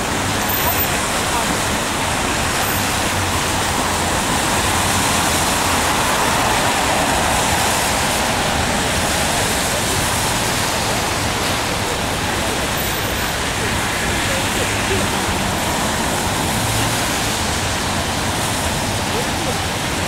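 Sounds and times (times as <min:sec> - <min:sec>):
dense city traffic: 0:00.0 - 0:20.0.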